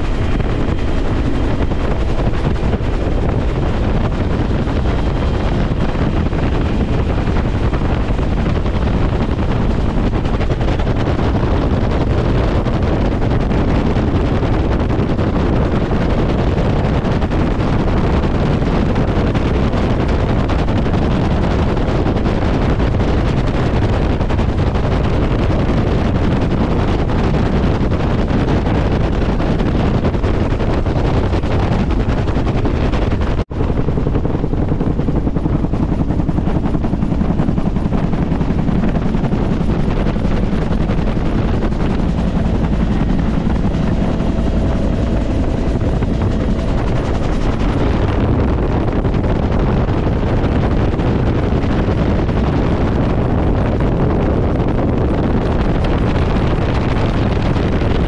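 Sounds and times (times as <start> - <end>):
helicopter rotor and engine: 0.0 - 58.0
wind buffeting microphone: 0.0 - 58.0.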